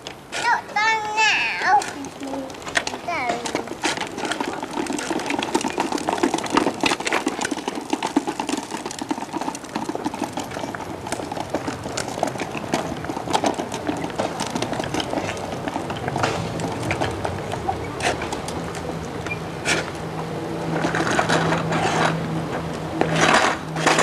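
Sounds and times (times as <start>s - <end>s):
plastic wheels rattling on paving: 0.0s - 24.0s.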